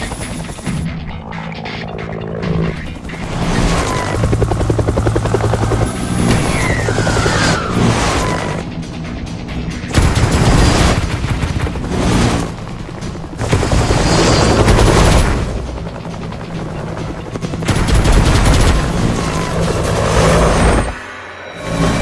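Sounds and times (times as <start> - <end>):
helicopter rotor chop: 0.0 - 21.0.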